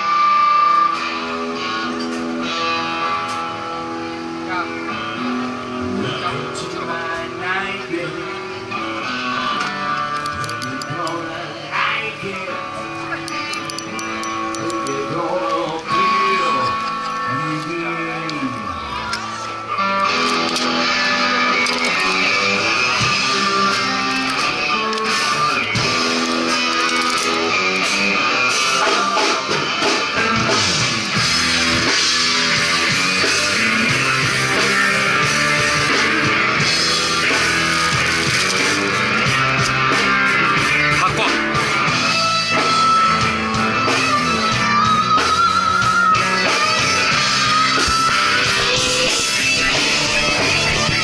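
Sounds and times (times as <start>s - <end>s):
drums: 0.0s - 51.0s
electric guitar: 0.0s - 51.0s
live rock band: 0.0s - 51.0s.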